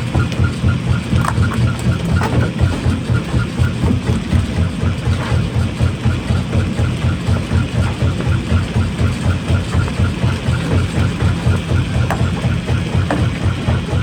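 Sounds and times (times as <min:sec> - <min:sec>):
rock-crushing machinery throbbing: 0:00.0 - 0:14.0.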